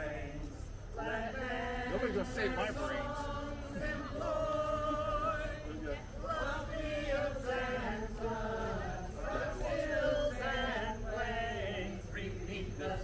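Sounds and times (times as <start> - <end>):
group singing a carol: 0.0 - 13.0.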